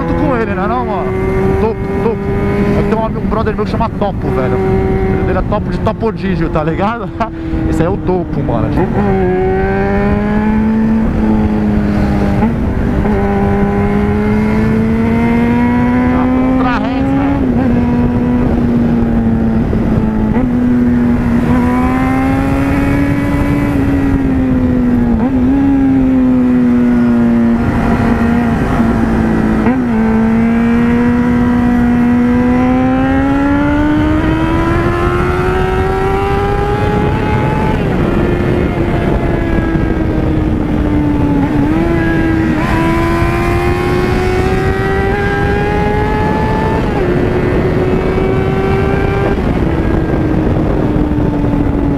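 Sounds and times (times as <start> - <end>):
motorcycle engine revving: 0.0 - 51.9
wind rush on microphone: 0.0 - 51.9.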